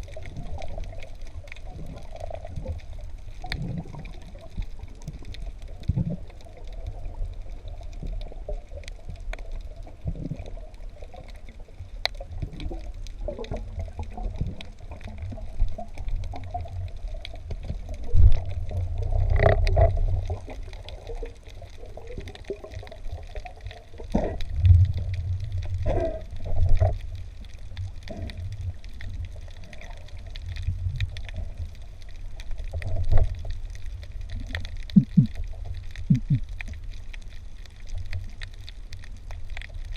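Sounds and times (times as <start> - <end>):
underwater water rumble: 0.0 - 39.9.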